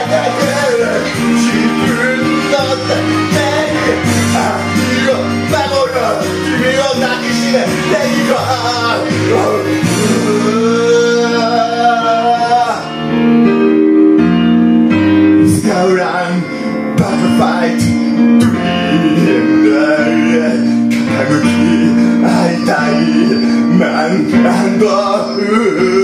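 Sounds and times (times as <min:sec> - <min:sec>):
man singing into microphone: 0:00.0 - 0:13.2, 0:15.4 - 0:26.0
karaoke backing track: 0:00.0 - 0:26.0.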